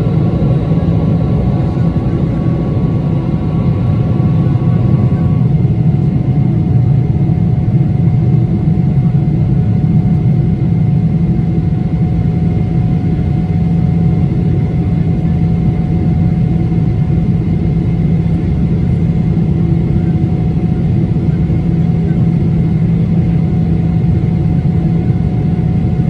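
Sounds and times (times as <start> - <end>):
airliner cabin engine drone: 0.0 - 26.0
faint engine whining tones: 0.0 - 26.0.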